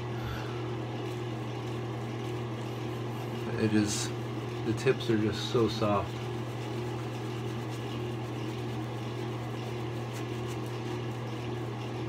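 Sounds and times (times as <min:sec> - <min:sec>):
low mechanical hum: 0:00.0 - 0:12.0
shaving brush lathering: 0:01.0 - 0:12.0.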